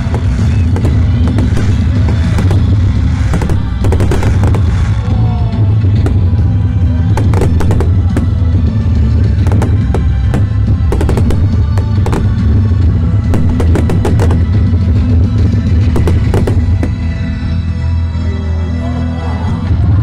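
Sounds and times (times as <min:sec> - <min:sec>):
fireworks bursting and crackling: 0:00.0 - 0:17.5
loud music with heavy bass: 0:00.0 - 0:20.0.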